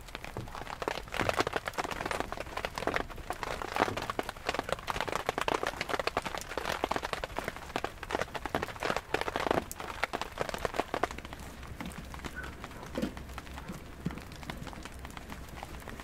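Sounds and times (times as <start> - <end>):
rain drops tapping: 0.0 - 16.0.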